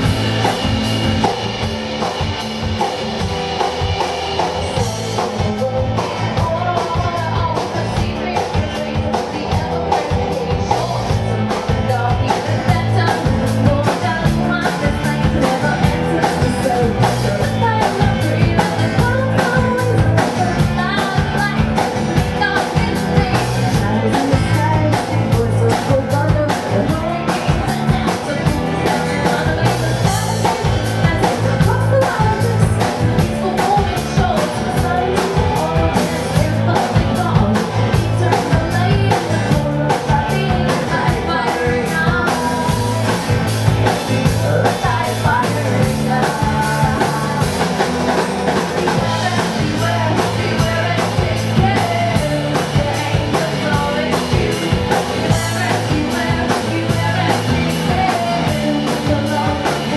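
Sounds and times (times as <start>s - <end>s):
drum kit beat: 0.0s - 59.9s
electric bass: 0.0s - 59.9s
person singing: 0.0s - 59.9s.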